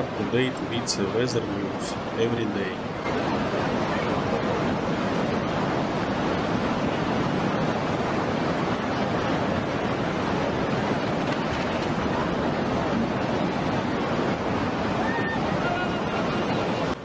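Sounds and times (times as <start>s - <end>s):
rushing water: 0.0s - 17.0s
wind noise on microphone: 1.6s - 17.0s.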